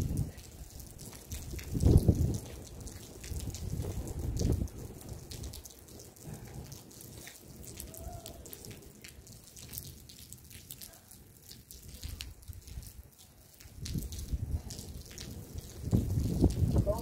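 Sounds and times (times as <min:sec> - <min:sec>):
rain: 0:00.0 - 0:17.0
raindrops and drips: 0:00.0 - 0:17.0.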